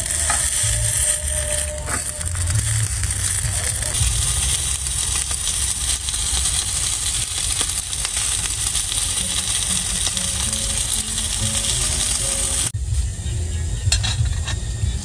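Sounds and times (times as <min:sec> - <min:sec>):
meat sizzling with pops: 0:00.0 - 0:13.1
low rumble: 0:00.0 - 0:15.0.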